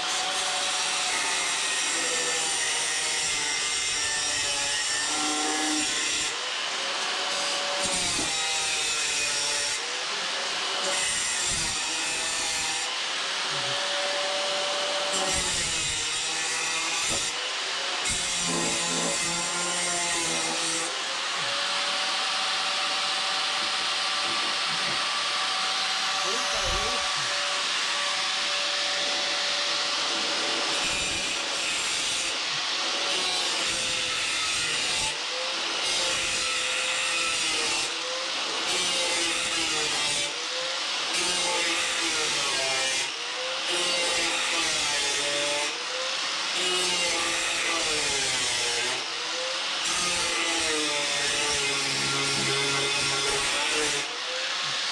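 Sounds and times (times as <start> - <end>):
angle grinder cutting: 0.0 - 54.9.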